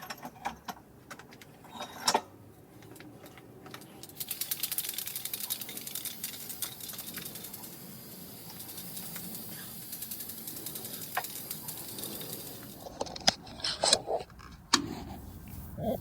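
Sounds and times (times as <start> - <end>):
metallic clicking and rattling: 0.0 - 14.9.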